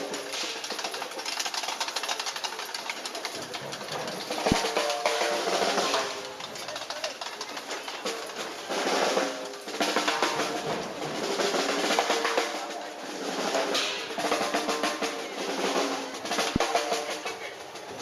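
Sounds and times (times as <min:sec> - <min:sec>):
drum-heavy parade music: 0:00.0 - 0:18.0.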